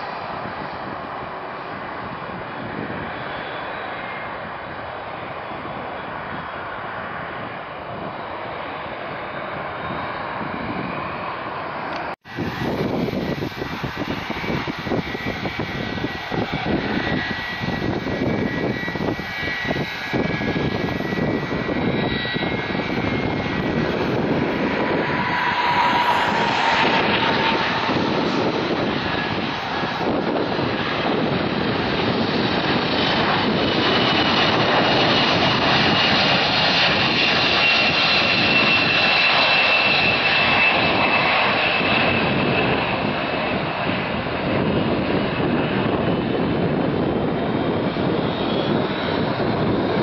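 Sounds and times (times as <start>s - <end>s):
jet engines whining and roaring: 0.0s - 50.0s.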